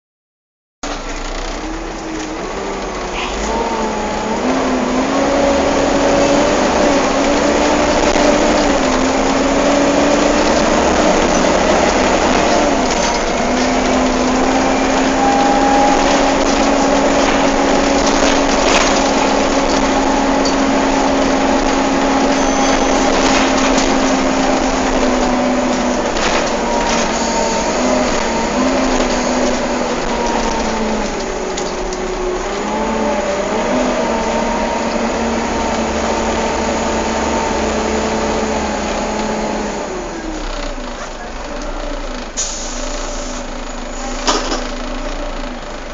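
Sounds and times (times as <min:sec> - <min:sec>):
diesel engine: 0:00.8 - 0:45.9
engine cooling fan whining: 0:01.3 - 0:40.7.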